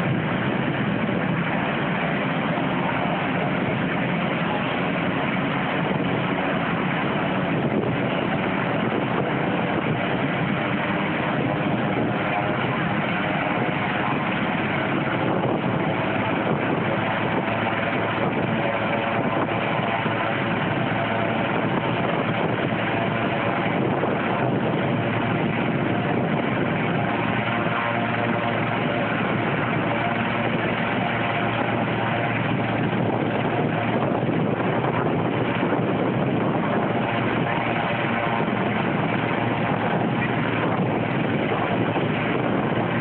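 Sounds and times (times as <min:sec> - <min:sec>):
faint whine: 0:00.0 - 0:43.0
helicopter turbine and rotor rush: 0:00.0 - 0:43.0.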